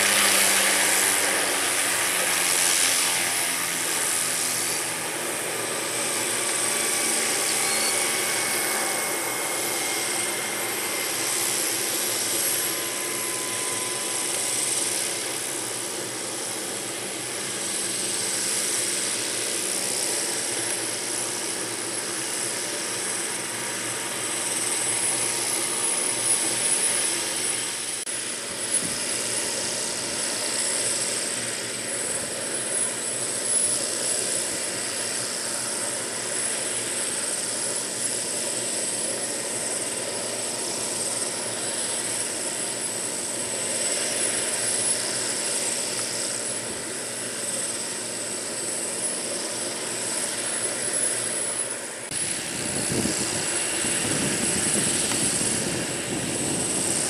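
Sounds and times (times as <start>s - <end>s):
helicopter rotor rushing: 0.0s - 57.0s
helicopter turbine whine: 0.0s - 57.0s.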